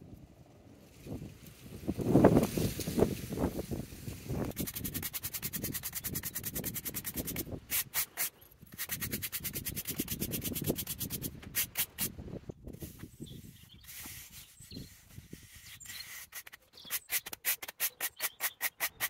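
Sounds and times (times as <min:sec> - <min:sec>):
push broom sweeping sand: 0:02.2 - 0:12.2, 0:12.8 - 0:19.0.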